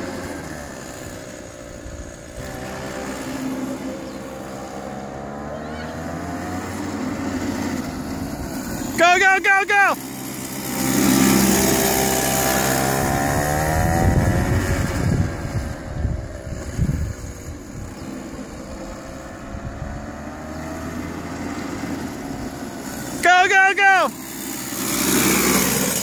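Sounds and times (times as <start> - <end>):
small go-kart engine passing: 0.0 - 26.0.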